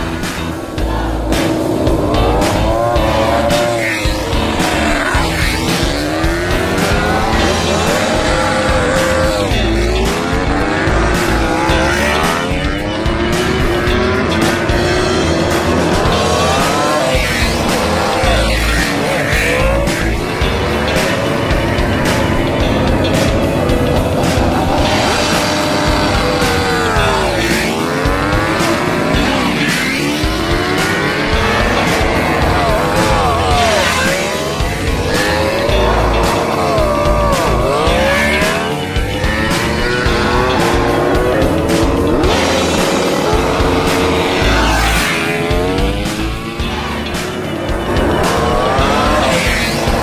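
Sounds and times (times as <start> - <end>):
music with a regular beat: 0.0 - 50.0
racing motorcycle engines revving: 0.0 - 50.0.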